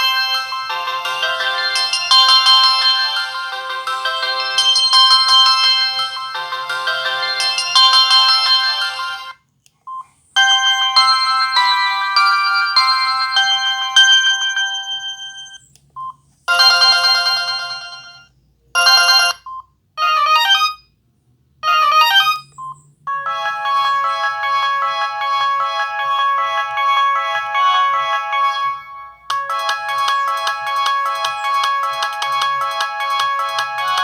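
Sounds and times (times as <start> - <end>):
electronic ringtone melodies: 0.0 - 9.4, 10.4 - 15.7, 16.5 - 20.8, 21.6 - 22.5, 23.1 - 34.0.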